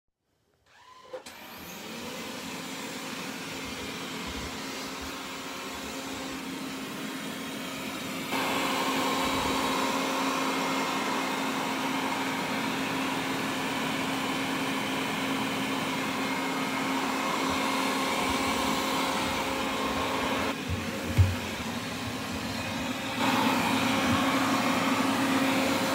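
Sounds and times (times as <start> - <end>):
robot vacuum humming: 0.7 - 25.9.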